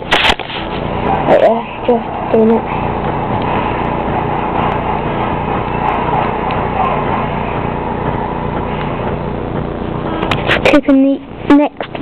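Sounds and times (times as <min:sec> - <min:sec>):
low droning hum: 0:00.0 - 0:12.0.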